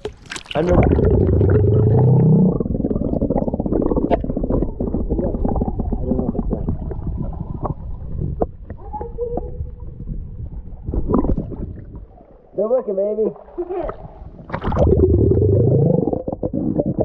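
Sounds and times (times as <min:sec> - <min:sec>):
underwater rumble of moving water: 0:00.0 - 0:12.6, 0:13.6 - 0:17.0.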